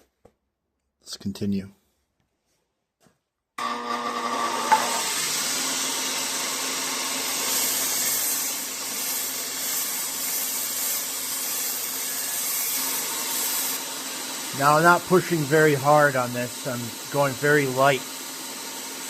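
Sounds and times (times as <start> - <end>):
belt sander grinding metal: 3.6 - 19.0.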